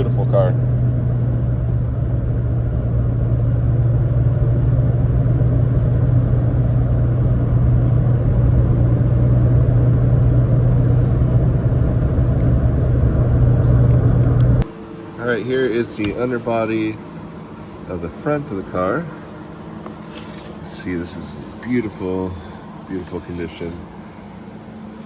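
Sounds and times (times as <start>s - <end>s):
car engine drone in cabin: 0.0s - 25.0s.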